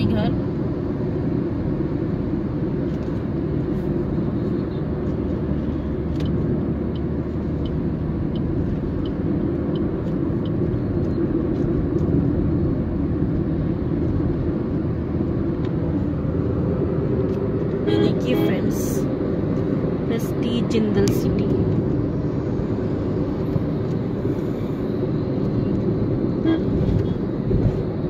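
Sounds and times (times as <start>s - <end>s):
road and engine noise in car: 0.0s - 28.0s.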